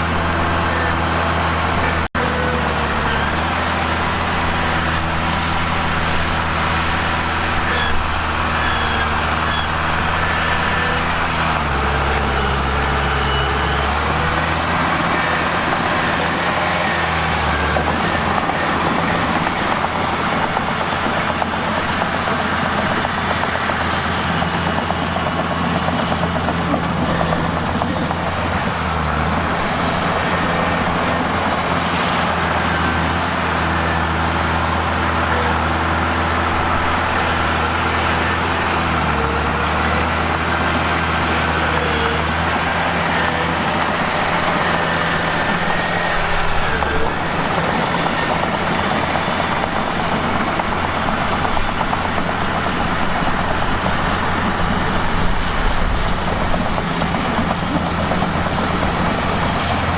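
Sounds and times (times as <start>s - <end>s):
bulldozer diesel engine running: 0.0s - 59.9s
rough grinding noise: 0.0s - 59.9s.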